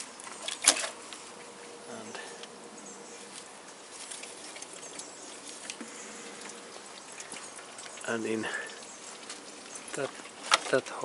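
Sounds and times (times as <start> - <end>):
light ticks and scratches: 0.0 - 11.0.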